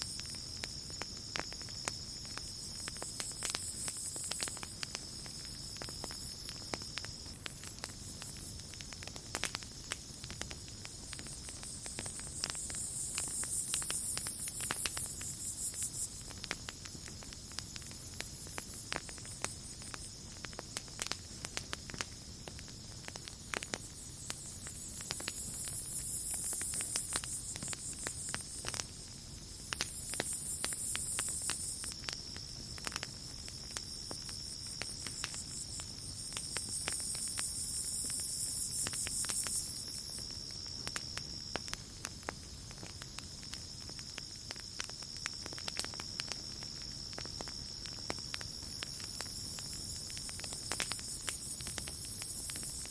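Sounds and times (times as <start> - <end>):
campfire crackling and popping: 0.0 - 52.9
high insect trill: 0.0 - 52.9
night insects chirring: 0.0 - 52.9.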